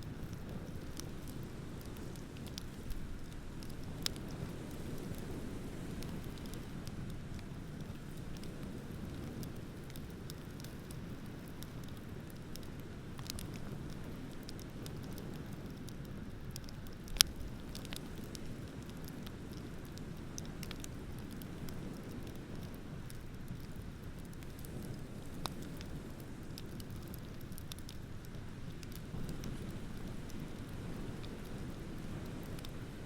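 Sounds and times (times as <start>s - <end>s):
bonfire crackling and popping: 0.0s - 33.0s.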